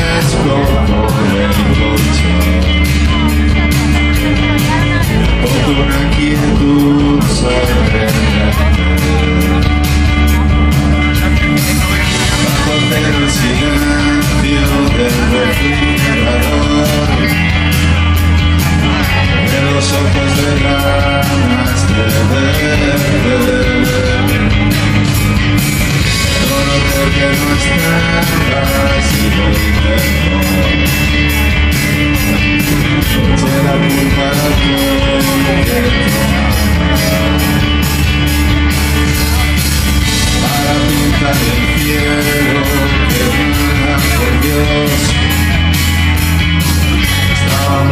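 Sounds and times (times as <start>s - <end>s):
drums with steady beat: 0.0s - 47.9s
electric guitar: 0.0s - 47.9s
man singing: 0.0s - 47.9s.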